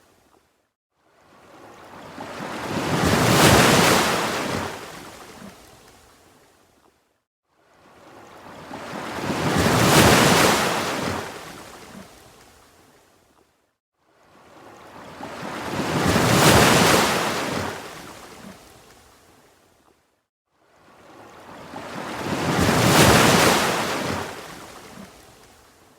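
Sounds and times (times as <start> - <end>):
ocean waves breaking on shore: 0.0 - 6.6, 7.5 - 13.1, 14.0 - 19.6, 20.5 - 25.9.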